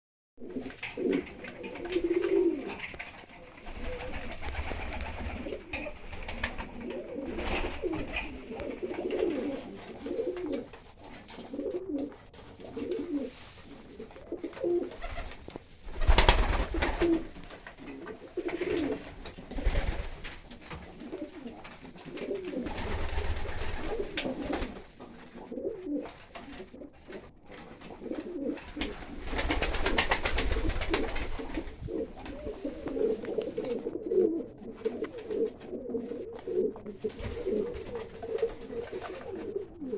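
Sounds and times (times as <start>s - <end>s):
pigeons cooing: 0.4s - 39.9s.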